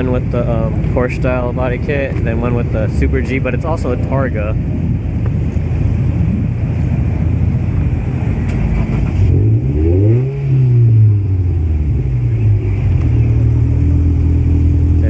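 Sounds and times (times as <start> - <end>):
car engine revving: 0.0 - 15.0
low engine rumble: 0.0 - 15.0.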